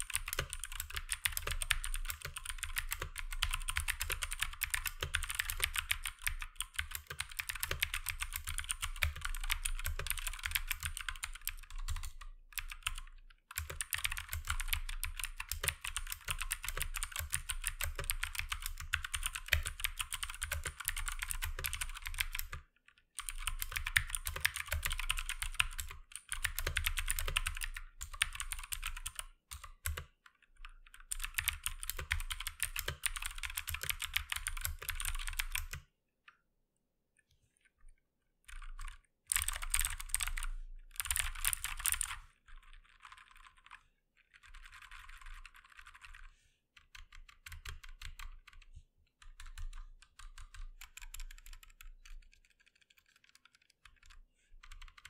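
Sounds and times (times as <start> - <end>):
mechanical keyboard typing: 0.0 - 35.9, 38.5 - 55.0.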